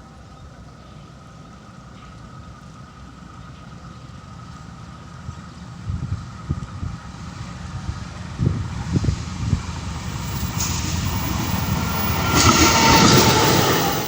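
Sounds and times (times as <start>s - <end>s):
train passing: 0.0s - 14.0s.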